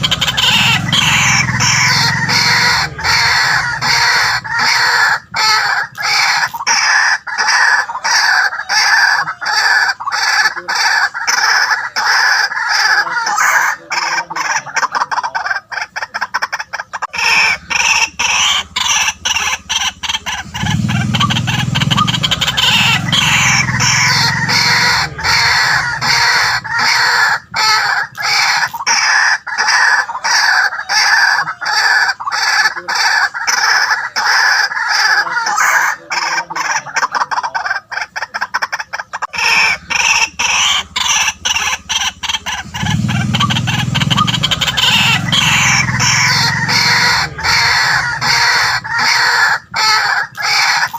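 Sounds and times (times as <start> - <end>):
waterhen calling: 0.0 - 50.9.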